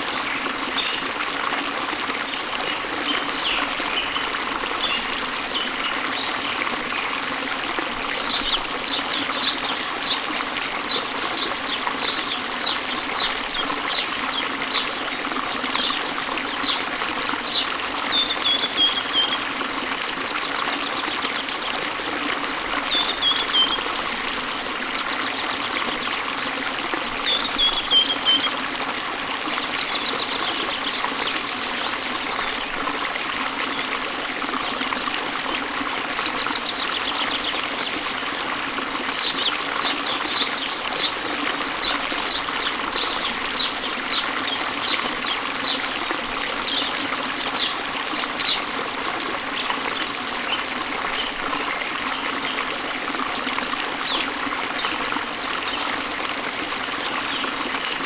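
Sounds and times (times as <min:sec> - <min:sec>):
waterfall running: 0:00.0 - 0:58.0.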